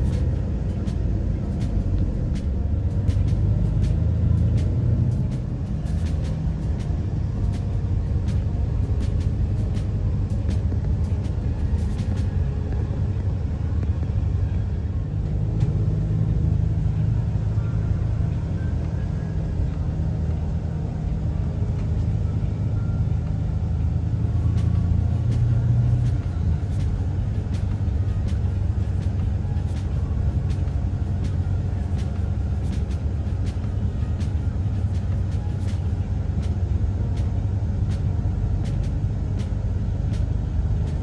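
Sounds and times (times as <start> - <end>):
bus engine and tyre rumble: 0.0 - 41.0.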